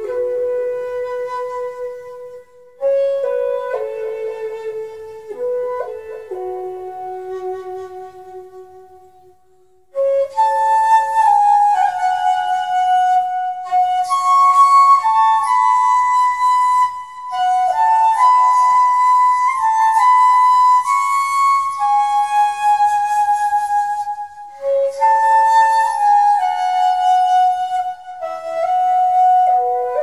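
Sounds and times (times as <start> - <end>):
slow flute melody: 0.0 - 30.0.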